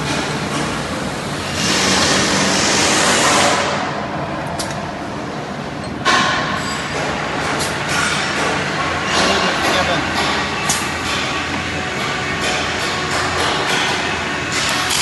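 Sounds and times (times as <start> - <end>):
welding machine running: 0.0 - 3.9, 6.6 - 15.0.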